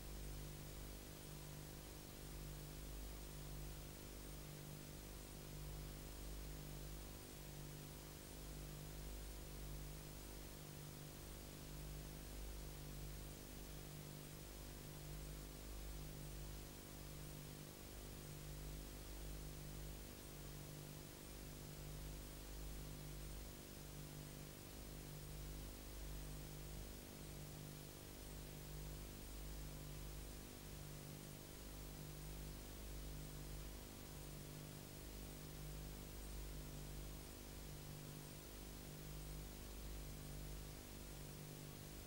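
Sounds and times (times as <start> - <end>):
faint pulsing electrical hum: 0.0 - 42.0.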